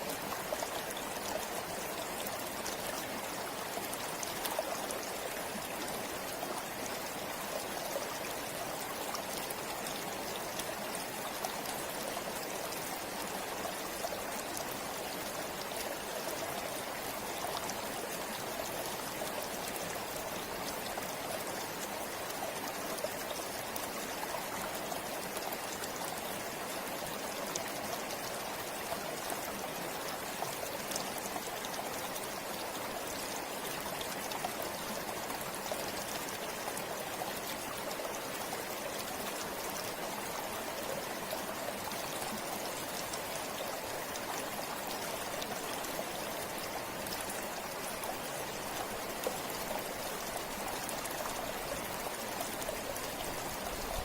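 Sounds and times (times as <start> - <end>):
stream flowing over stones: 0.0 - 54.0.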